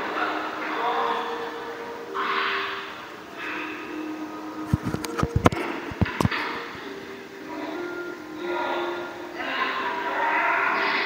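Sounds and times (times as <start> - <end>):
video soundtrack over loudspeakers: 0.0 - 11.0.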